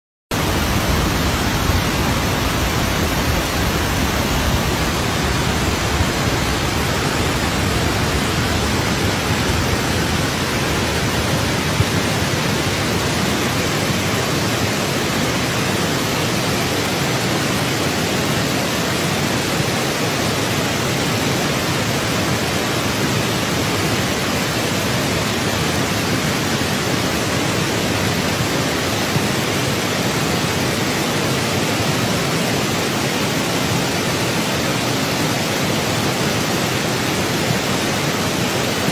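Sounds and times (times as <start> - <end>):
steady rushing noise: 0.3 - 38.9.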